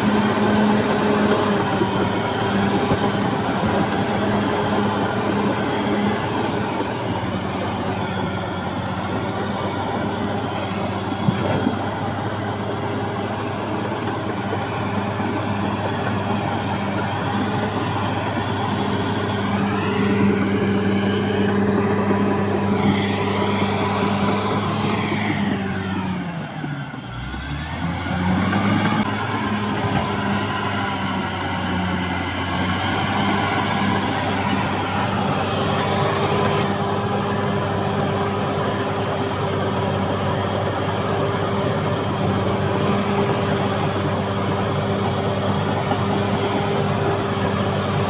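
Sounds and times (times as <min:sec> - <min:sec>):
bulldozer diesel engine under load: 0:00.0 - 0:48.0.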